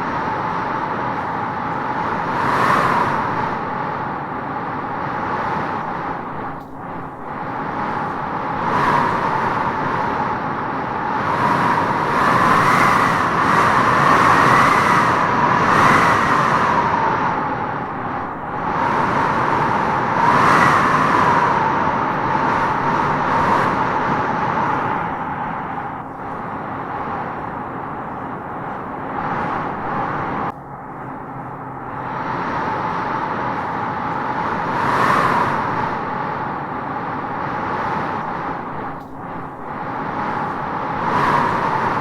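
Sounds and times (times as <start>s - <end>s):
gusty wind howling through trees: 0.0s - 42.0s.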